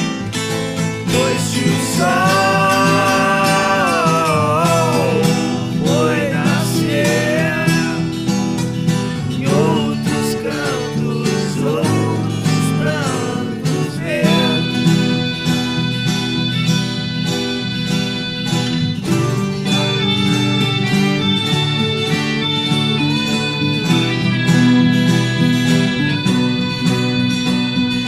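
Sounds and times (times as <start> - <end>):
acoustic folk guitars playing: 0.0 - 28.0
gliding melody line: 0.0 - 28.0.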